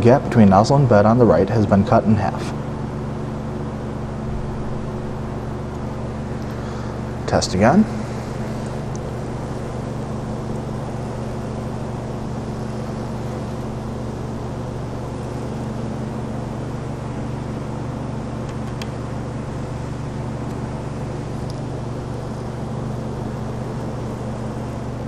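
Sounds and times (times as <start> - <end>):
cooling fans humming: 0.0 - 25.0.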